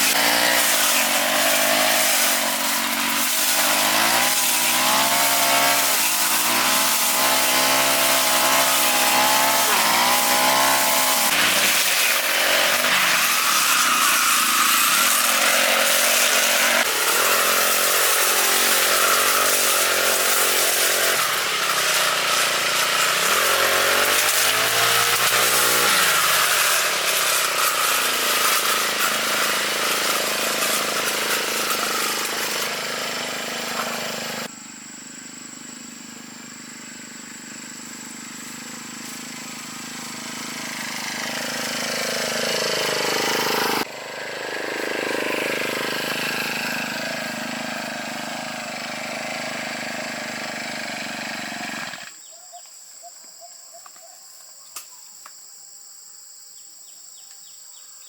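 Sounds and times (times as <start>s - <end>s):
lawn mower engine running: 0.0s - 52.1s.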